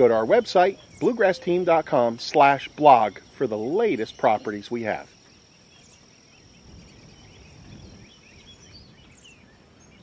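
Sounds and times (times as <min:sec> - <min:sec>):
high insect trill: 0:00.0 - 0:08.9
bird chirps: 0:00.0 - 0:10.0.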